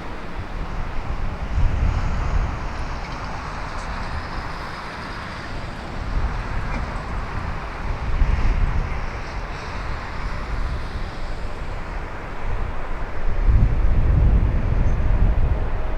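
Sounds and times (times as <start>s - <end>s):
jet engines of landing airliner: 0.0s - 15.9s
wind rumbling on microphone: 0.0s - 15.9s.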